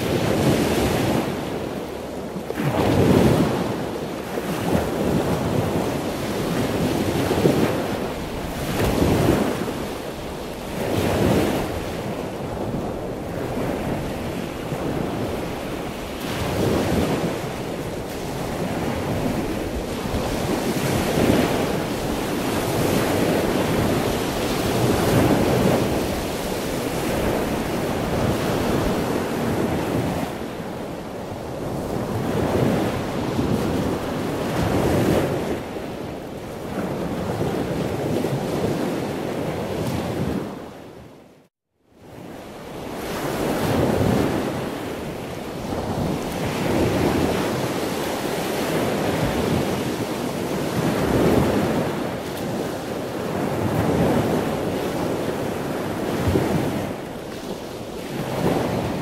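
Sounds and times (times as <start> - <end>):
ocean waves breaking: 0.0 - 41.0, 42.1 - 59.0.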